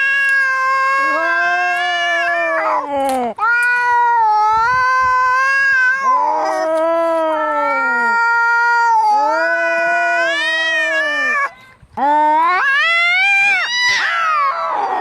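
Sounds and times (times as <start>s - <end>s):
cats yowling in a fight: 0.0s - 11.5s, 12.4s - 15.0s.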